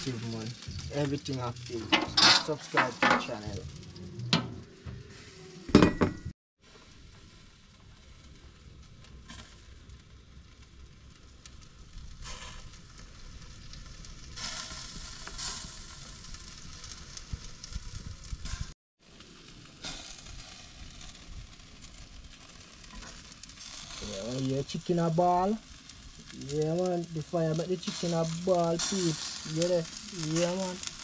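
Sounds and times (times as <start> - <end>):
fire crackling from dripping juices: 0.0 - 5.5, 6.6 - 31.0
chicken sizzling on grill: 0.0 - 5.8, 6.6 - 31.0.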